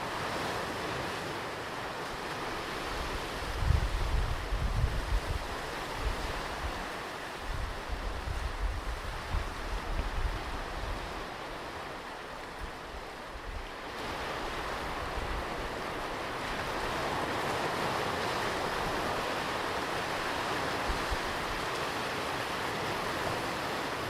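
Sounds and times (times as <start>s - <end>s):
waves breaking on a beach: 0.0s - 24.0s
wind rumble on microphone: 2.6s - 24.0s.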